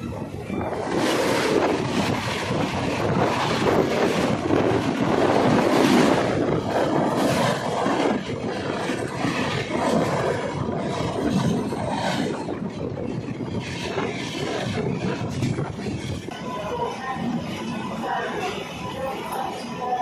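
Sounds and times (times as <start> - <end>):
train rushing rumble: 0.0 - 20.0.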